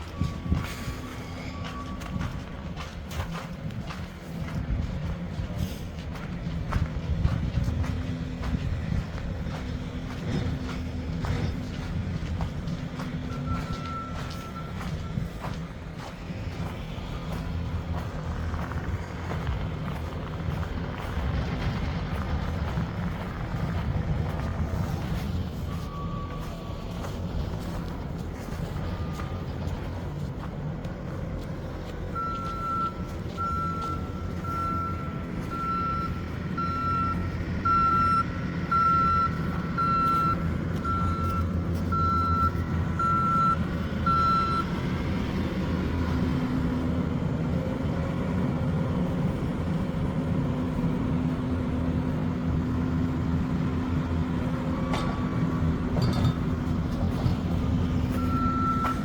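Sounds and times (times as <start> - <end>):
truck engine running: 0.0 - 59.0
truck reversing alarm beeping: 0.0 - 59.0.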